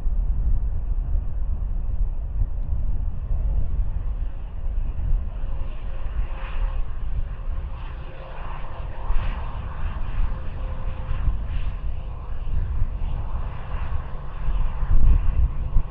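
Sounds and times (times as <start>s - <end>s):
jet engines with deep rumble: 0.0s - 15.9s.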